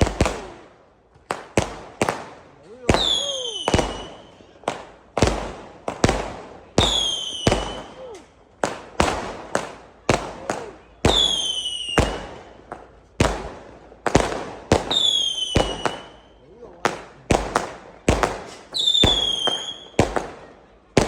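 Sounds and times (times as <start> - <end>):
fireworks bangs with echoing rumble: 0.0 - 21.0.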